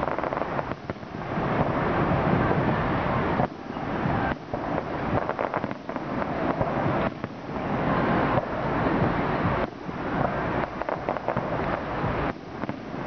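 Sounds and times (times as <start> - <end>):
continuous rumble: 0.0 - 13.0
fireworks bangs and crackles: 0.0 - 13.0.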